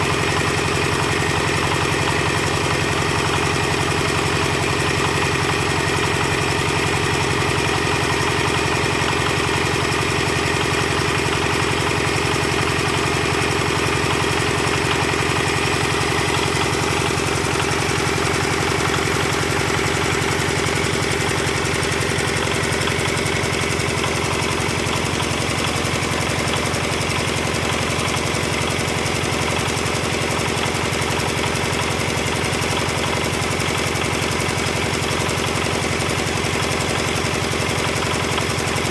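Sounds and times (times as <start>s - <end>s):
machine engine running: 0.0s - 38.9s.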